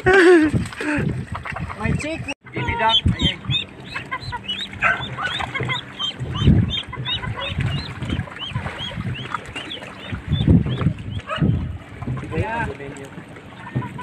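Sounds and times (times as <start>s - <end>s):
water sloshing around wading person: 0.1s - 14.0s
ducklings peeping: 1.4s - 12.7s, 13.4s - 14.0s.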